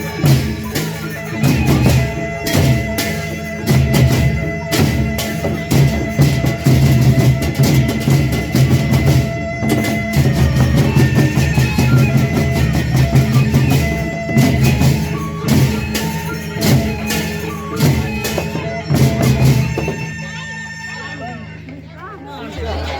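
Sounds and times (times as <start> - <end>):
drum strokes: 0.0 - 20.3.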